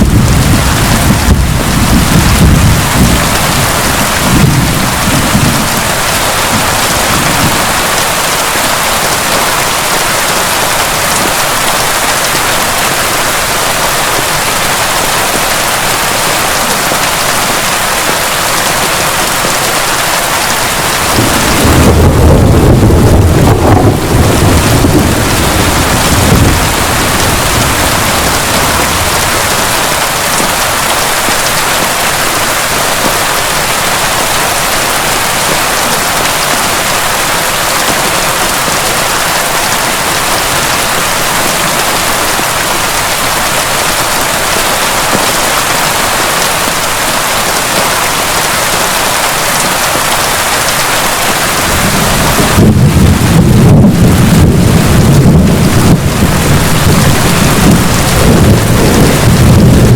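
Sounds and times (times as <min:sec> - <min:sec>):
thunder rumbling: 0:00.0 - 0:47.5, 0:50.0 - 0:59.9
heavy rain pouring: 0:00.0 - 0:59.9.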